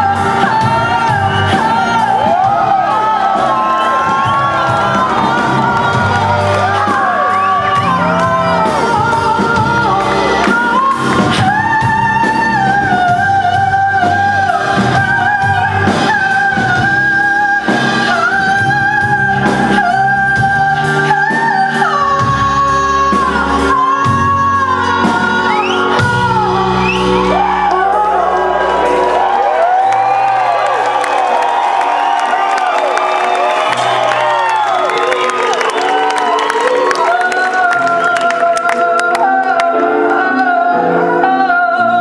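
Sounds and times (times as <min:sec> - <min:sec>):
woman singing wordless vocal: 0:00.0 - 0:29.2, 0:36.2 - 0:42.0
live rock band: 0:00.0 - 0:42.0.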